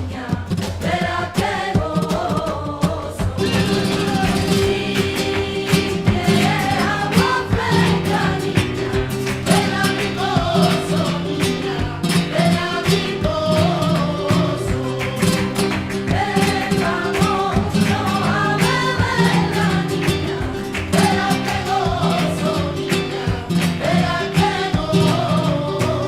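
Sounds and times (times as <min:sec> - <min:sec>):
people singing: 0:00.0 - 0:26.0
percussive strikes: 0:00.0 - 0:26.0
instrumental accompaniment: 0:00.6 - 0:26.0.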